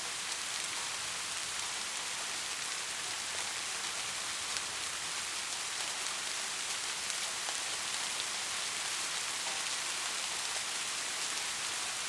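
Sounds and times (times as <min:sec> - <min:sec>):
steady rainfall hiss: 0:00.0 - 0:12.0
raindrops ticking on a surface: 0:00.1 - 0:12.0.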